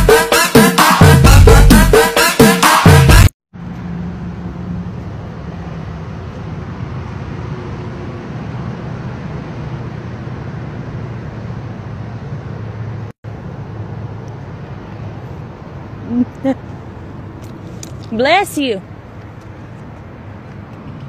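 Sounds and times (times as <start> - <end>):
traffic rumble: 3.6 - 21.0.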